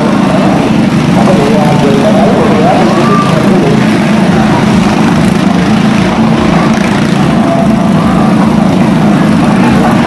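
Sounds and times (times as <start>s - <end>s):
motorcycle engines running loud: 0.0s - 10.0s.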